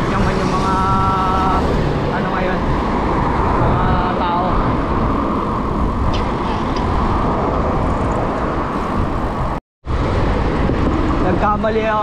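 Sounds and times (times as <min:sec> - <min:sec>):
passing traffic: 0:00.0 - 0:12.0
wind rumbling on microphone: 0:00.0 - 0:12.0.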